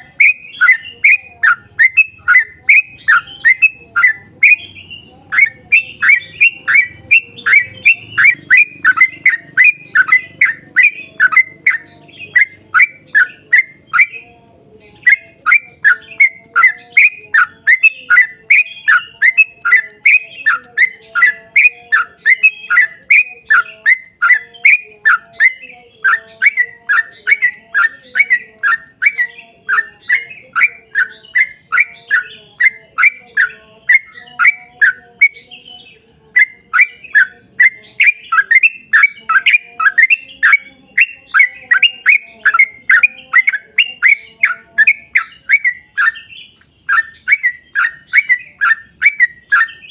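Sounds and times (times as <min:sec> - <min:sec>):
bulbul singing whistled notes: 0:00.0 - 0:49.9.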